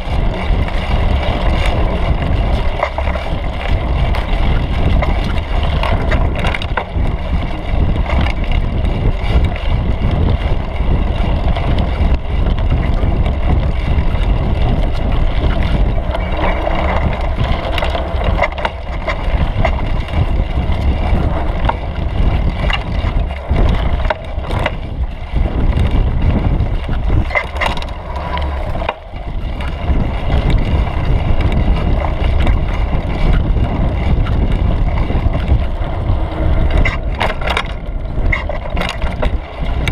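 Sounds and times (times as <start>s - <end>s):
bike tyres rumbling on dirt: 0.0s - 39.9s.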